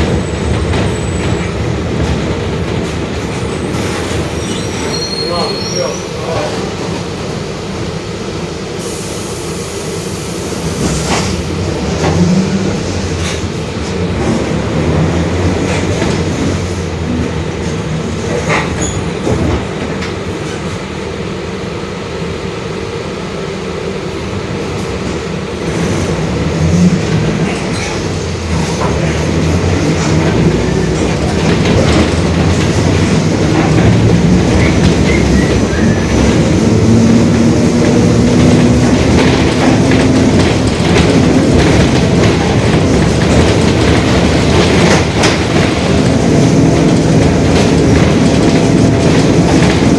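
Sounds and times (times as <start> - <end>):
bus diesel engine droning: 0.0 - 20.4, 21.0 - 49.9.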